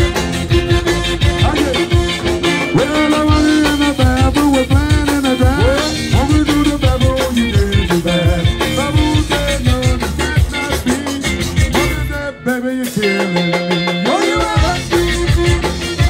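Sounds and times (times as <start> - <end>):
accordion: 0.0 - 16.0
drums: 0.0 - 16.0
live band playing: 0.0 - 16.0
man singing: 0.0 - 16.0.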